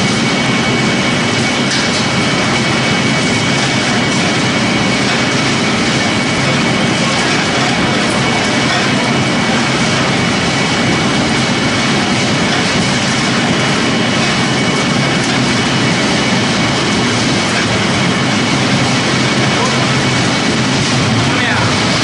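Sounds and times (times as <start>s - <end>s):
high machine whine: 0.0s - 22.0s
machinery running: 0.0s - 22.0s.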